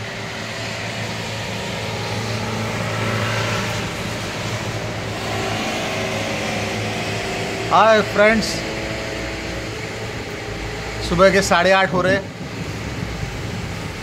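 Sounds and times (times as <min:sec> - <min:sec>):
low steady hum: 0:00.0 - 0:14.0
vehicles passing on wet road: 0:00.0 - 0:14.0.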